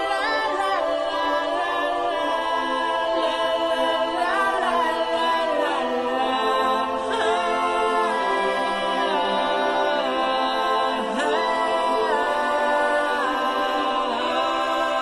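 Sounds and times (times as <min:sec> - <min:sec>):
voices singing a cappella: 0:00.0 - 0:15.0.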